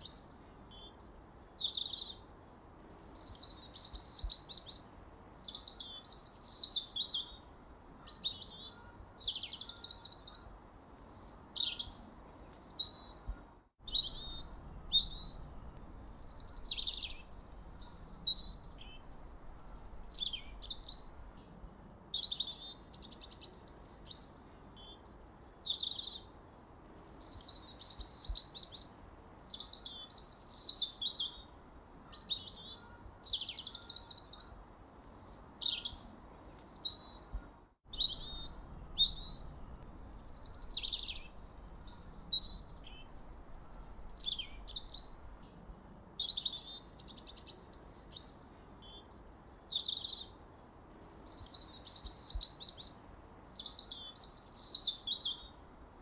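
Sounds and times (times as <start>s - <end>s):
faint steady hiss: 0.0s - 56.0s
songbirds chirping: 0.0s - 56.0s.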